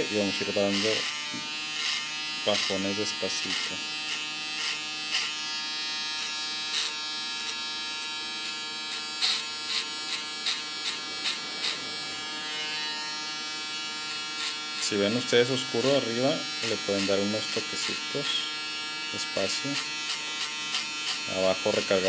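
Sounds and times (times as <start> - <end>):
foil shaver buzzing: 0.0 - 22.0
shaver rasping over stubble: 0.0 - 22.0.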